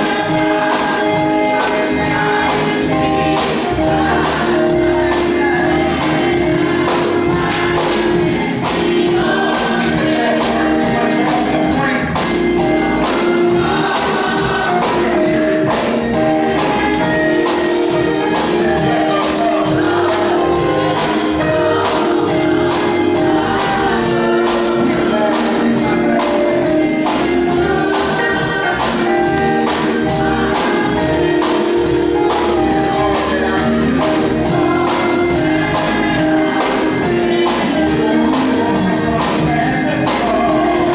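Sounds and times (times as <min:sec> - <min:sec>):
choir singing gospel: 0:00.0 - 0:40.9
tambourine beat: 0:00.0 - 0:40.9.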